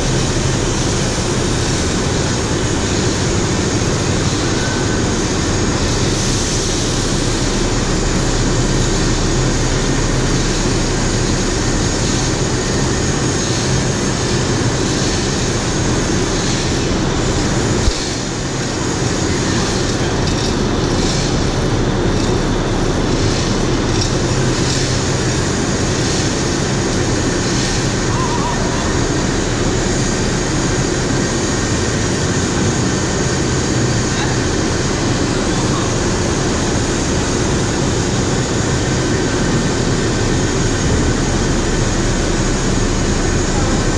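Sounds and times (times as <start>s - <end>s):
heavy machinery rumble and hiss: 0.0s - 43.9s.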